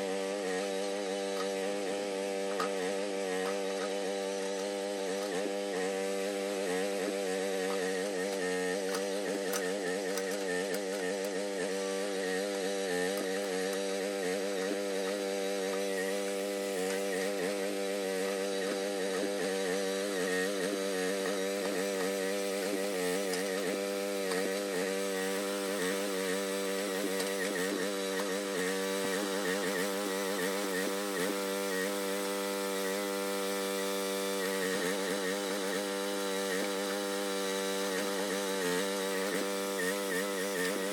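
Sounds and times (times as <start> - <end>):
small excavator engine droning: 0.0 - 40.9.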